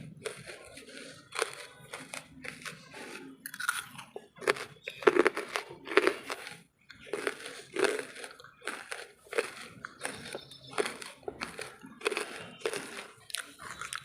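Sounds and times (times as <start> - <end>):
charcoal being chewed: 0.0 - 14.0.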